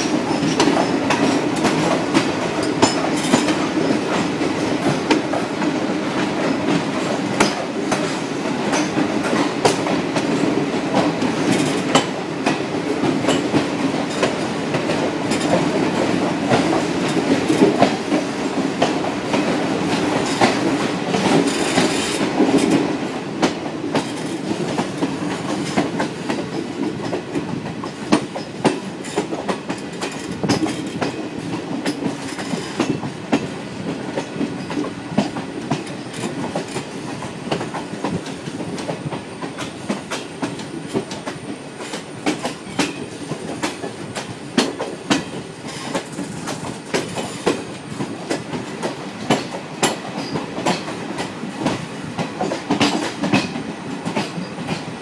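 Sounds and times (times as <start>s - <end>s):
wheels clacking over rail joints: 0.0s - 54.9s
train coaches rumbling on track: 0.0s - 55.0s.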